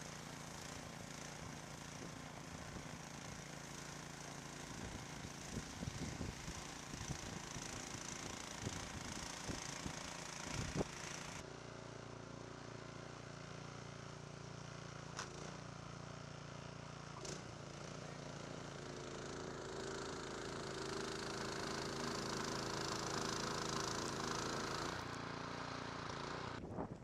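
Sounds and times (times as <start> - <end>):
snowblower engine running: 0.0 - 26.6.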